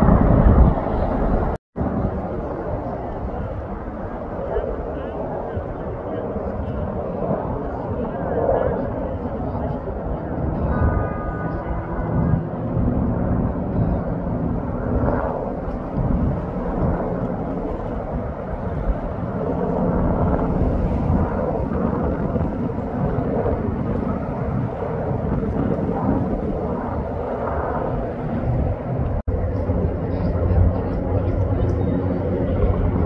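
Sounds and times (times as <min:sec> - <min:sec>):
helicopter rotor drone: 0:00.0 - 0:33.0.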